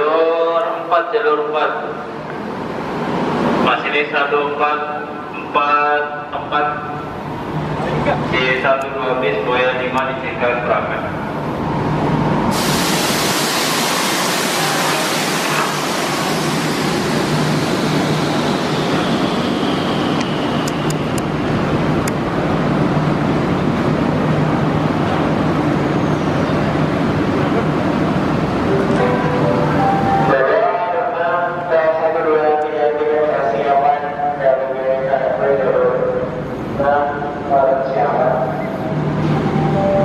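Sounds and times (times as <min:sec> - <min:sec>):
train running and braking: 0:04.9 - 0:34.3, 0:35.5 - 0:40.0.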